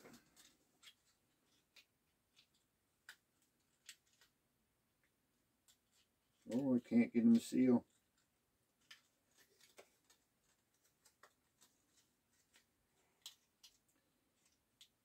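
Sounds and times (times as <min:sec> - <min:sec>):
faint clicks and taps of packaging: 0:00.0 - 0:04.4, 0:05.0 - 0:06.7, 0:07.3 - 0:15.0.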